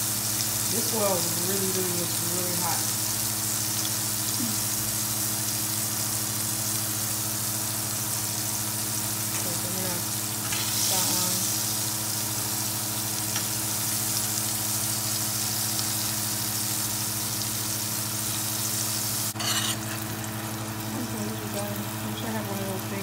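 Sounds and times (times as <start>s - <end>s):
shrimp sizzling in hot oil: 0.0s - 23.0s.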